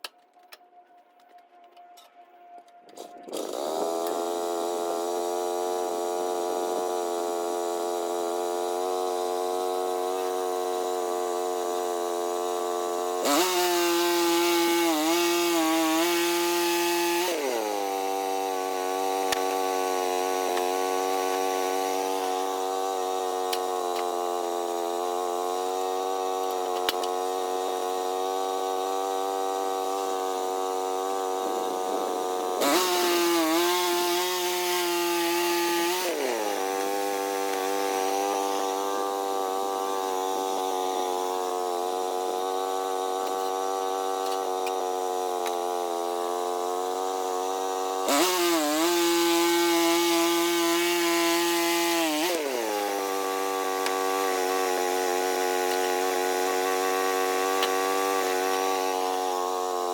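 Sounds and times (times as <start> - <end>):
saw blade cutting wood: 2.8 - 59.9
sawmill engine running: 2.9 - 59.9.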